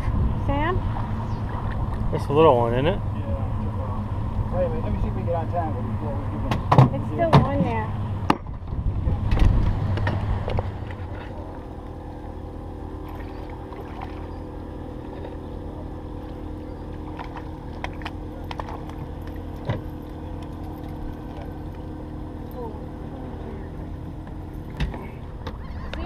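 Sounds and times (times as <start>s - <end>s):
boat engine idling: 0.0s - 26.0s
low rumble: 0.0s - 26.0s.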